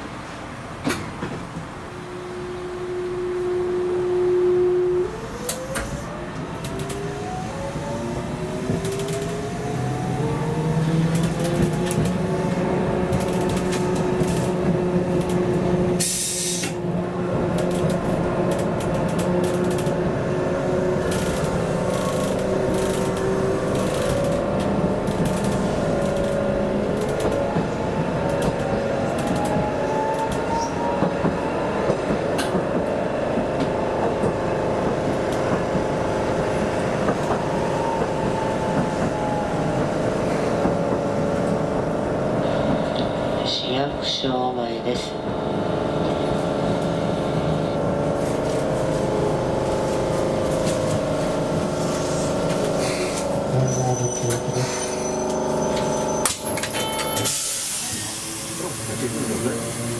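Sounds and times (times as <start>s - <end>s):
tram motor whine: 0.0s - 59.9s
wheels rumbling on rails: 0.0s - 59.9s.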